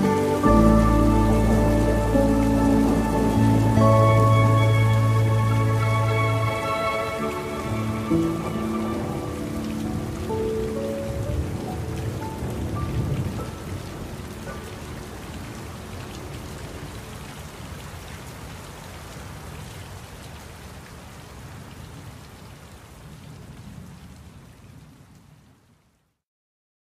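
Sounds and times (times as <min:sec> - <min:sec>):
steady rain falling: 0:00.0 - 0:26.2.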